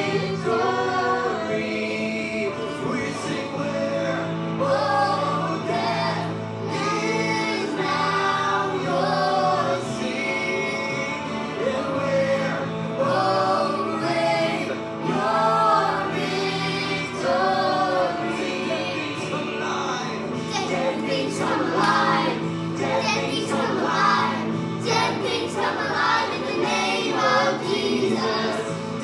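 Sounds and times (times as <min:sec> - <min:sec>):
congregation singing worship song: 0:00.0 - 0:29.0.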